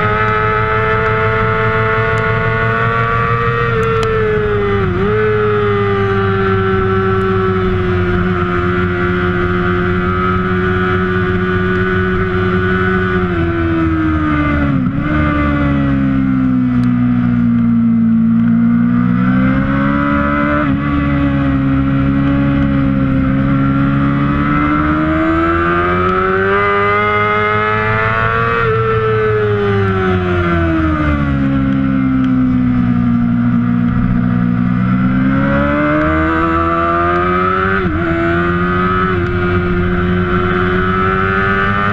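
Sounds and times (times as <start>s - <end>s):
motorbike engine running hard: 0.0s - 41.9s.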